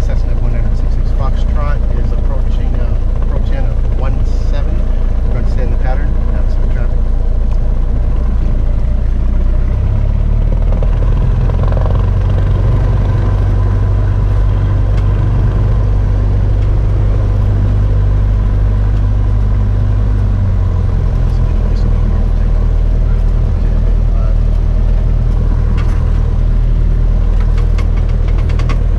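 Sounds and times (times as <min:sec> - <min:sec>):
propeller plane engine drone: 0:00.0 - 0:28.9.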